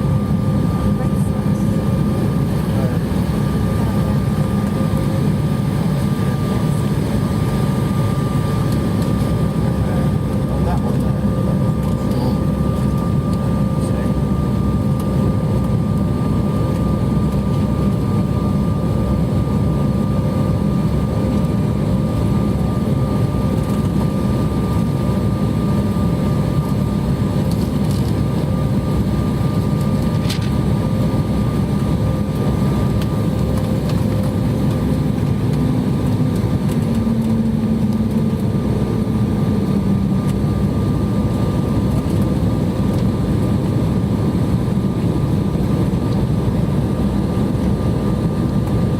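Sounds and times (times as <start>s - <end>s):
jet airliner cabin roar: 0.0s - 48.9s.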